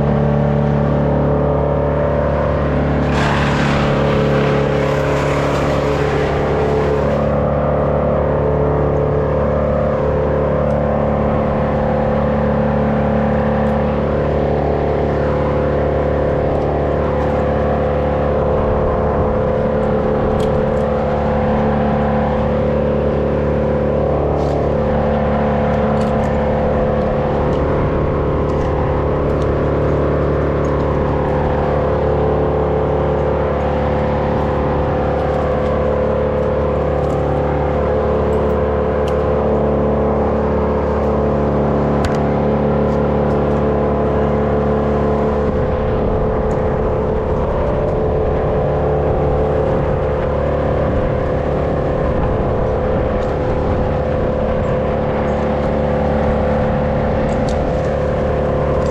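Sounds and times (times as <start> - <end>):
engine running steadily: 0.0 - 58.9.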